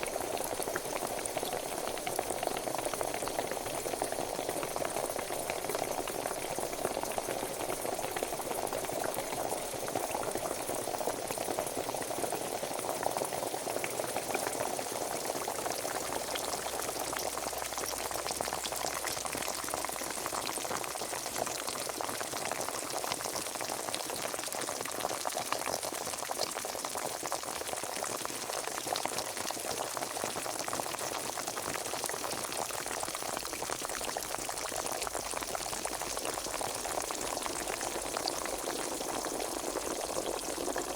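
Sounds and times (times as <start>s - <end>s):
water boiling and bubbling: 0.0s - 40.9s.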